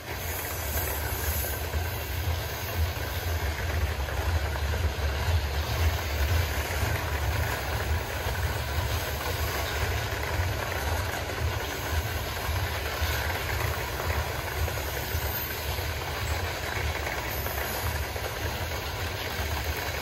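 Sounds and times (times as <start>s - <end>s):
freight train rolling by: 0.0s - 20.0s.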